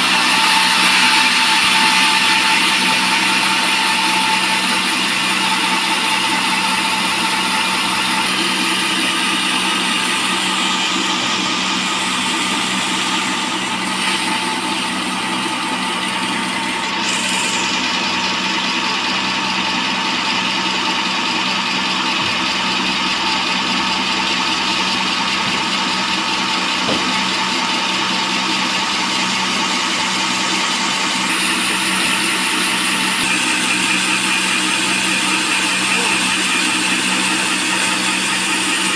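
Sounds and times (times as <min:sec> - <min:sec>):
band saw cutting log: 0:00.0 - 0:38.9
motor hum: 0:00.0 - 0:38.9.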